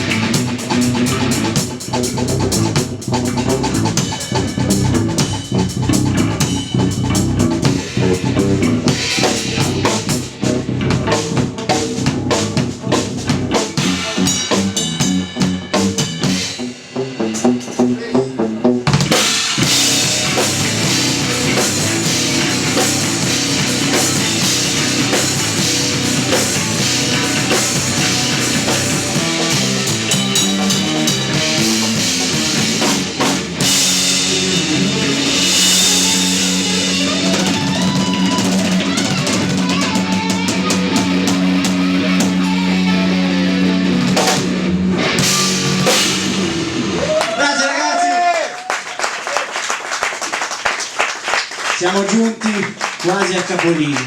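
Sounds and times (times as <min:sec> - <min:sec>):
dense drumming: 0:00.0 - 0:47.2
instrumental rock band playing: 0:00.0 - 0:47.4.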